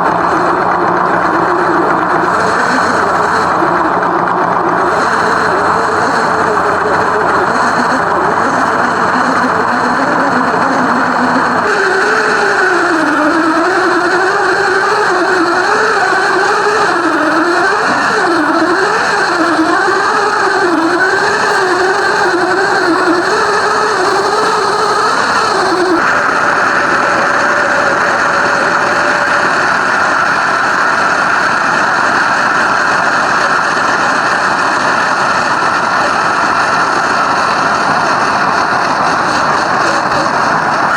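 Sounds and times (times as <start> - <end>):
simulated car engine sound: 0.0 - 40.9.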